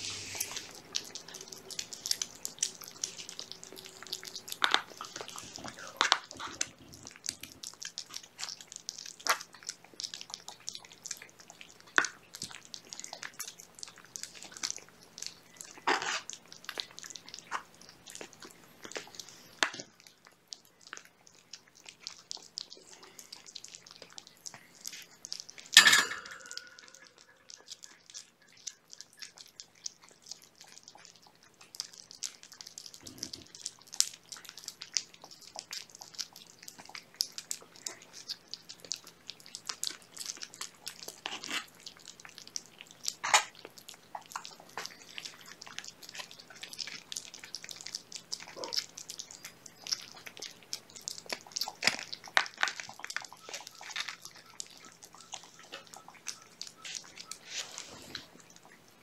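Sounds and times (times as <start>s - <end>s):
kittens chewing and lapping: 0.0s - 59.0s.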